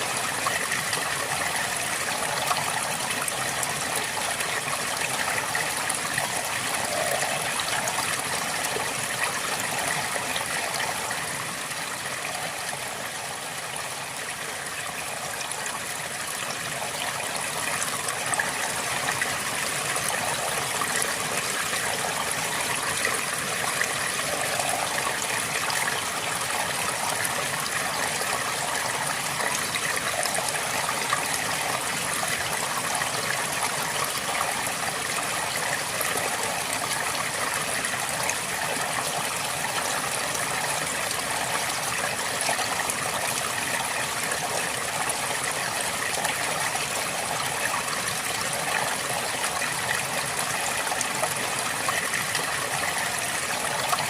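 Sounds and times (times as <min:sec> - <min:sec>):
river babbling over stones: 0:00.0 - 0:54.0.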